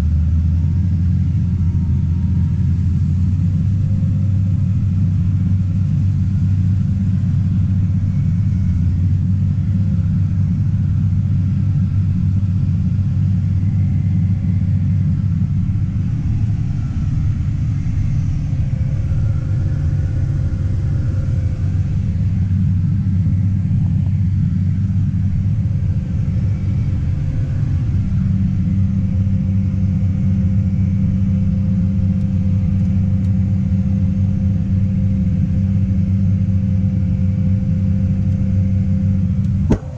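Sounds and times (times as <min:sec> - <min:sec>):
tractor engine drone: 0:00.0 - 0:39.9.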